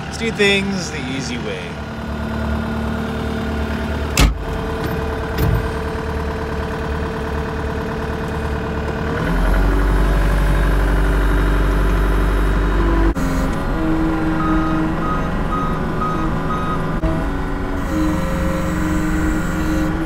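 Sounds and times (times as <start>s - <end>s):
skid steer engine running: 0.0s - 20.0s.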